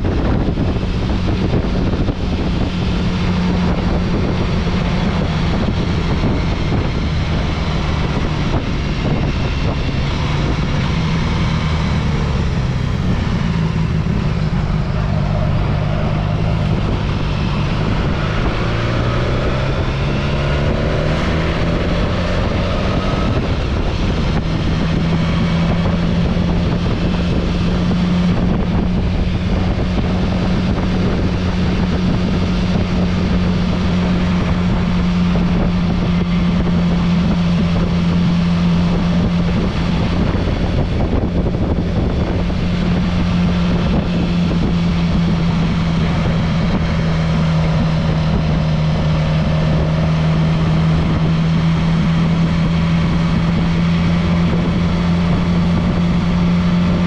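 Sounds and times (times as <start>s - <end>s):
vehicle engine running: 0.0s - 57.0s
wind noise on microphone: 0.0s - 57.0s.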